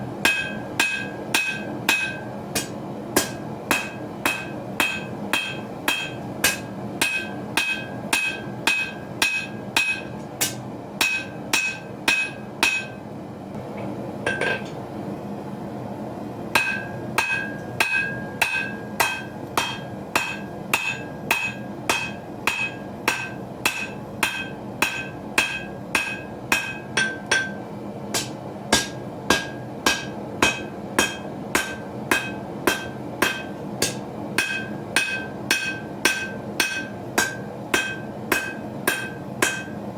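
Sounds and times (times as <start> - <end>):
hammer striking steel on anvil: 0.2 - 13.0, 16.5 - 39.9.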